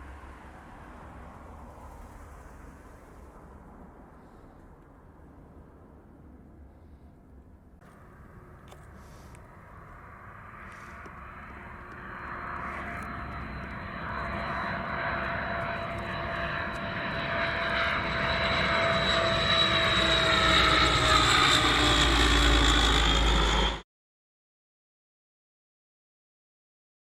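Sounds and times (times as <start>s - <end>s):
high engine whine: 0.0s - 23.8s
turboprop aircraft engines: 0.0s - 23.8s.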